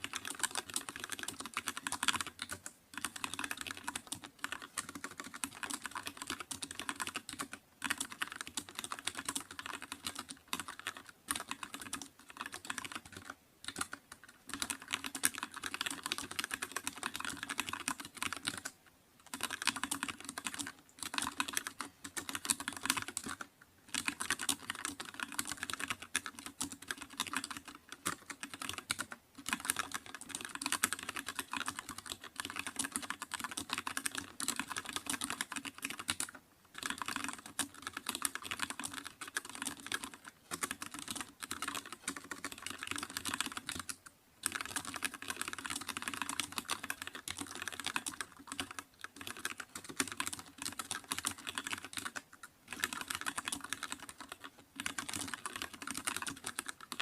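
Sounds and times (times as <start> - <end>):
fast keyboard typing: 0.0 - 57.0.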